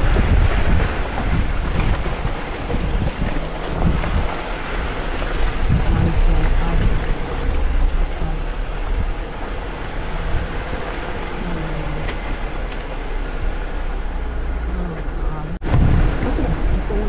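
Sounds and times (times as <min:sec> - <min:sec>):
low rumble of engine and tyres: 0:00.0 - 0:17.0.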